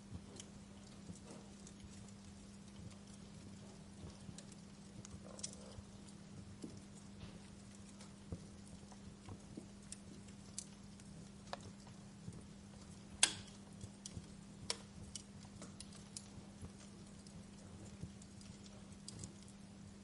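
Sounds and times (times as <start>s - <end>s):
faint steady hum: 0.0s - 20.0s
wood fire crackling: 0.0s - 20.0s.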